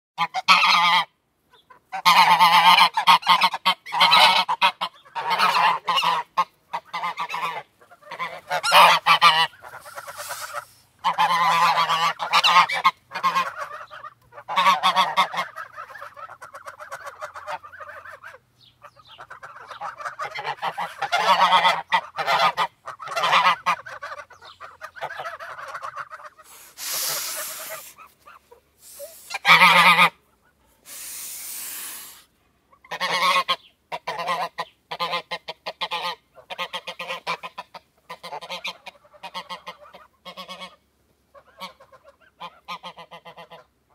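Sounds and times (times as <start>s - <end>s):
geese honking and chattering: 0.2s - 43.9s.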